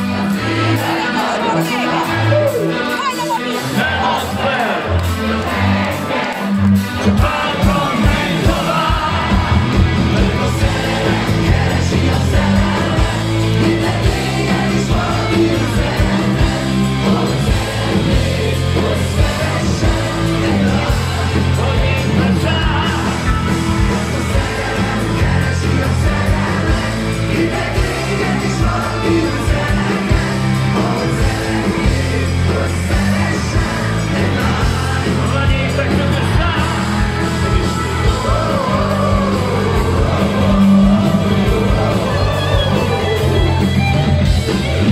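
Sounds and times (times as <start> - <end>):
live rock band: 0.0 - 44.9
man singing: 7.0 - 43.5.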